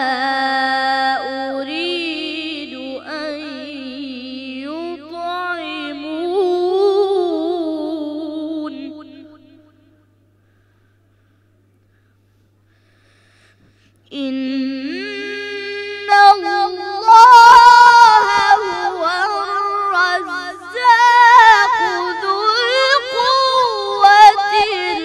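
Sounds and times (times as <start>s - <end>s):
boy chanting melodic recitation: 0.0s - 9.3s, 14.1s - 25.0s.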